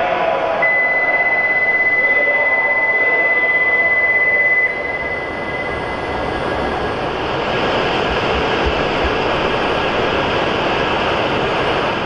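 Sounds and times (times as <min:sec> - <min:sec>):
train pulling out: 0:00.1 - 0:12.0.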